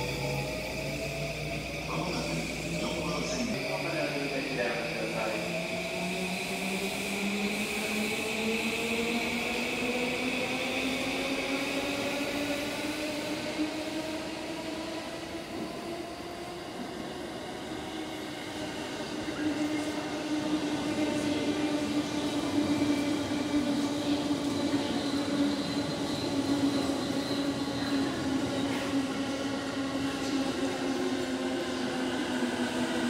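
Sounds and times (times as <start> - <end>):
electric train rumbling past: 0.0 - 33.0.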